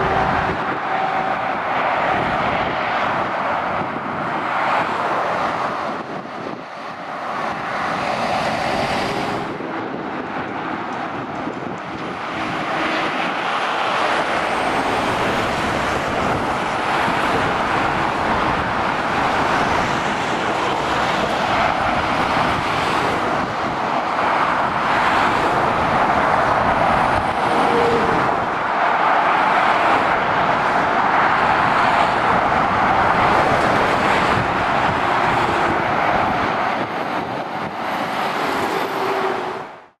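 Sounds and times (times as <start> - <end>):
motorway traffic passing: 0.0 - 40.0.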